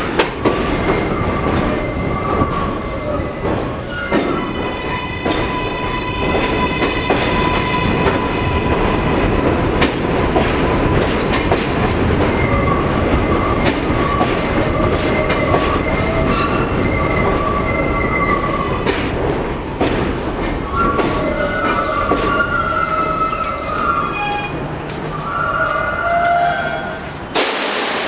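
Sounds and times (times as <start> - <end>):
subway train propulsion whine: 0.0 - 28.0
train wheels squealing: 0.6 - 9.6, 10.5 - 19.0, 20.6 - 27.3.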